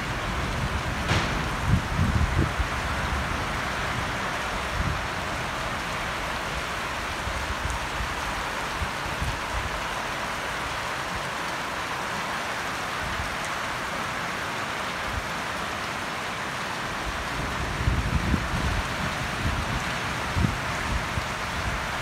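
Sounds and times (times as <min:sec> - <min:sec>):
rain on paving and plants: 0:00.0 - 0:22.0.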